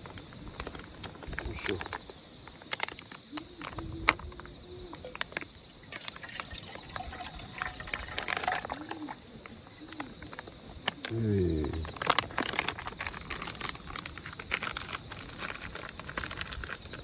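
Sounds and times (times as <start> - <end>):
crickets and night insects chirping: 0.0 - 17.0.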